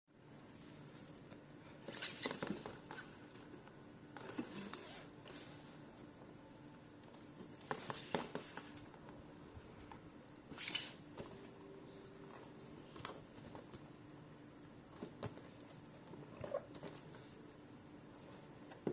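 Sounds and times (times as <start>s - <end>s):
faint steady hum: 0.1s - 18.9s.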